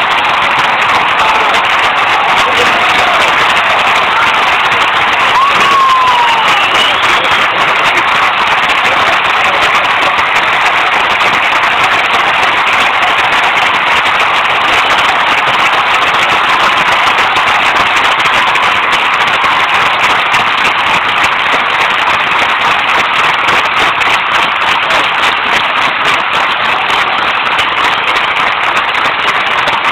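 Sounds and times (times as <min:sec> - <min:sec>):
large crowd applauding: 0:00.0 - 0:29.9.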